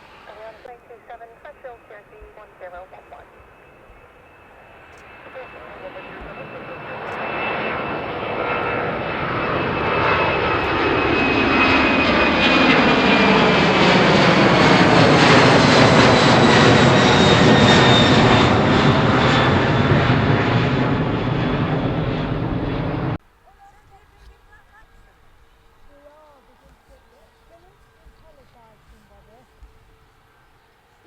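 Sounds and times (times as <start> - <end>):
plane engines passing close by: 0.0 - 31.0.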